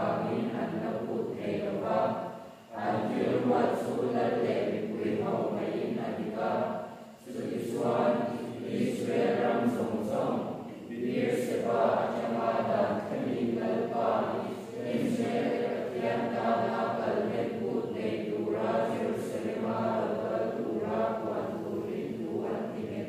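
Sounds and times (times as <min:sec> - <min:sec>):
congregation singing a hymn: 0:00.0 - 0:23.0.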